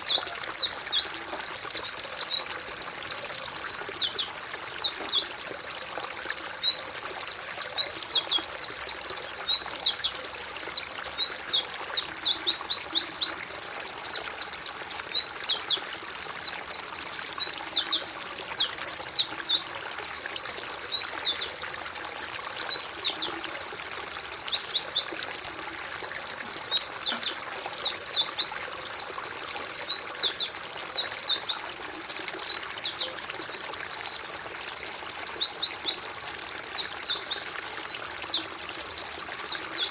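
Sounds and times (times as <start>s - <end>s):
birds chirping: 0.0s - 34.2s
water trickling: 0.0s - 39.9s.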